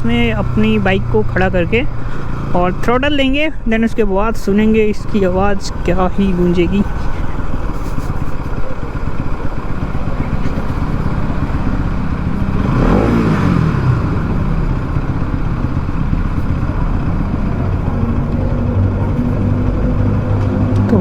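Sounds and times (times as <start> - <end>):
motorcycle engine running: 0.0 - 21.0
passing vehicle: 0.0 - 21.0
wind and road rush: 0.0 - 21.0.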